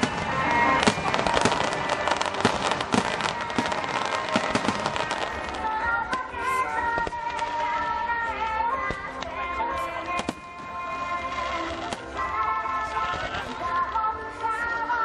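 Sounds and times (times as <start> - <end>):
fireworks popping and crackling: 0.0 - 15.0
music: 0.0 - 15.0.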